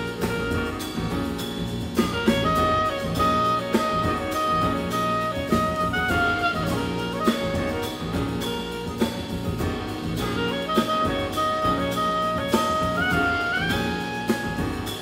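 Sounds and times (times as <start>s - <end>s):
clarinet holding long notes: 0.0s - 15.0s
double bass: 0.0s - 15.0s
drum kit with cymbal strokes: 0.0s - 15.0s
piano: 0.0s - 15.0s.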